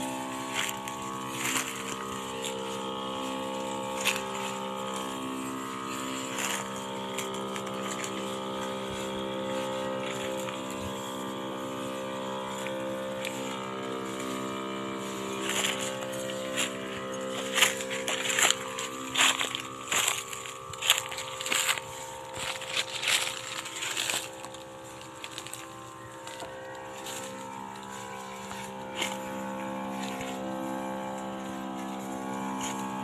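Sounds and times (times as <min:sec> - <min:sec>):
sprayer pump motor humming: 0:00.0 - 0:33.0.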